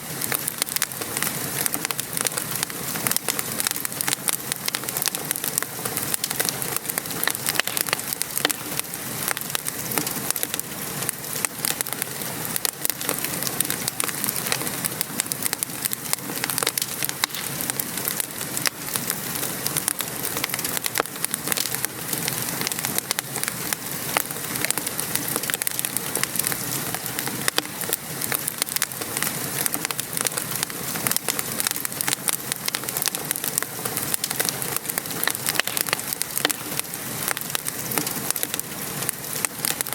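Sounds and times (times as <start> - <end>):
rain pattering: 0.0 - 39.9
wood fire crackling: 0.0 - 39.9.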